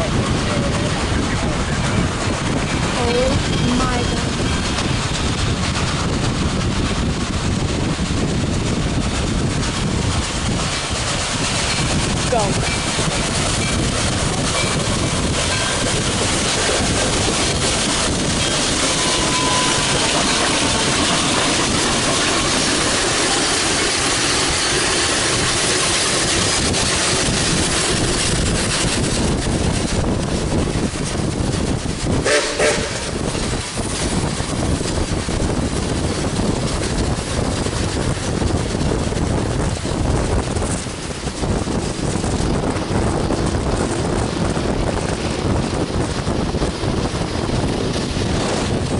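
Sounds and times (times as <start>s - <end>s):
road and wind noise: 0.0s - 48.9s
steam locomotive running: 0.0s - 48.9s.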